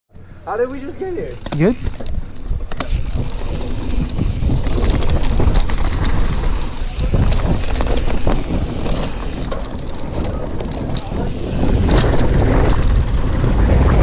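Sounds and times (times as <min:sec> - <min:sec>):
bike tyres rolling on dirt: 0:00.4 - 0:14.0
bike clicks and knocks: 0:00.6 - 0:13.3
wind buffeting microphone: 0:01.3 - 0:14.0.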